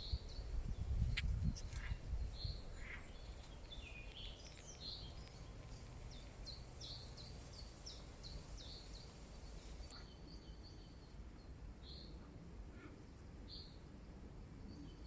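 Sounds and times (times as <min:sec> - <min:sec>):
small birds chirping: 0:00.0 - 0:12.3.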